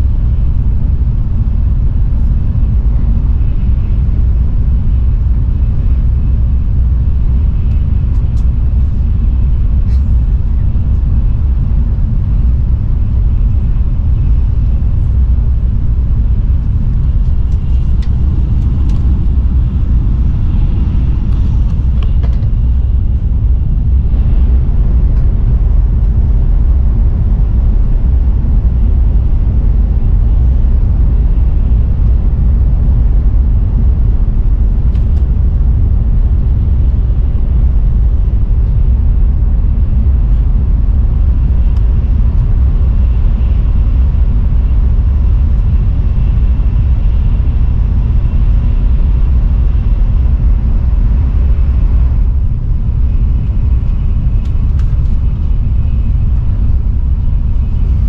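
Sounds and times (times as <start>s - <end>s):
high-speed train rumble in cabin: 0.0s - 58.0s.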